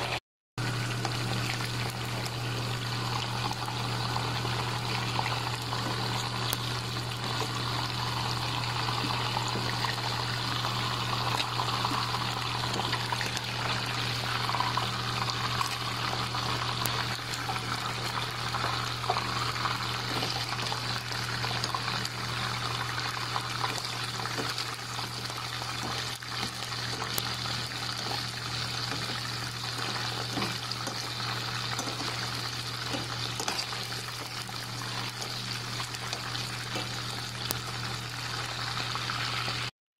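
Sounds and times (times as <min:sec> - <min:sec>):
chicken deep-frying in oil: 0:00.0 - 0:39.7.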